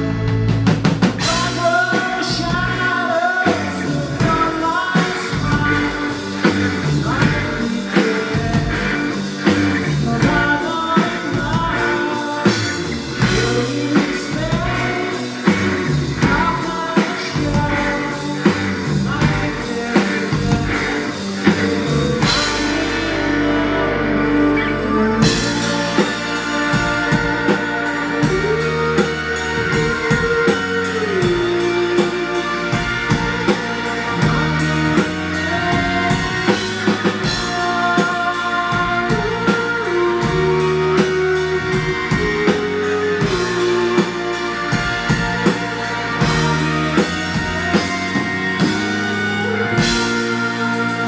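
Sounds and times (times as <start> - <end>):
bass guitar: 0.0 - 51.0
drum kit beat: 0.0 - 51.0
electric guitar: 0.0 - 51.0
person singing: 1.1 - 51.0.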